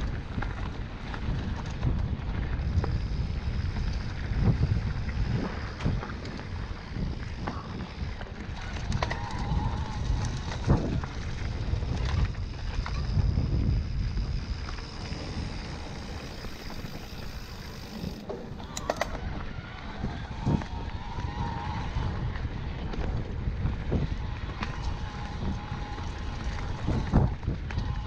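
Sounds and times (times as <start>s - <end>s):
bike knocking and rattling: 0.0s - 28.0s
wind buffeting microphone: 0.0s - 28.0s.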